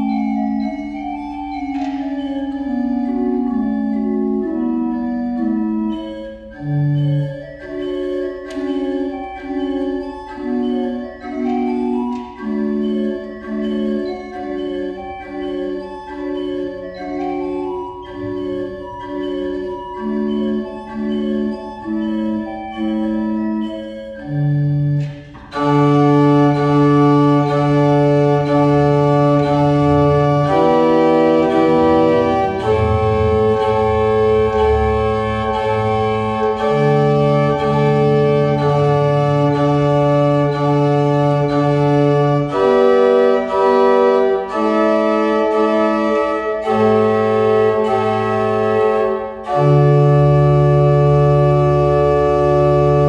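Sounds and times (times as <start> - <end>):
loud sustained organ chord: 0.0 - 53.0
pipe organ playing: 0.0 - 53.0.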